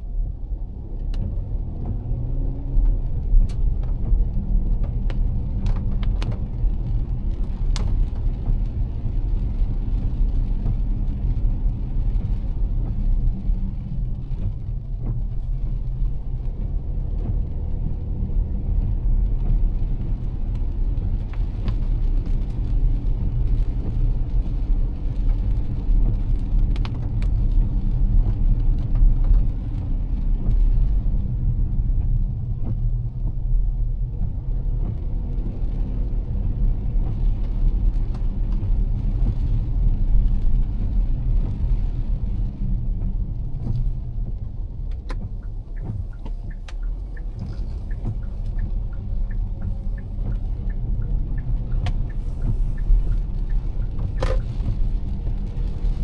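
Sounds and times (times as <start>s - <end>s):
car engine and tyres rumbling: 0.0s - 56.0s
rain tapping on car: 0.0s - 56.0s.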